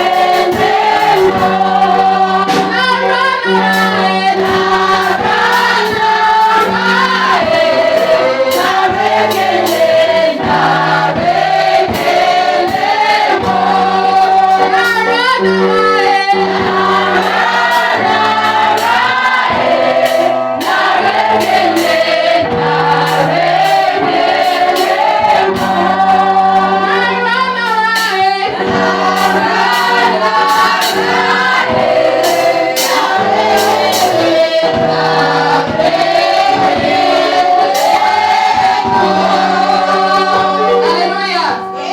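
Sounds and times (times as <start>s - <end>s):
choir singing gospel: 0.0s - 41.9s
keyboard bass and drums: 0.0s - 41.9s.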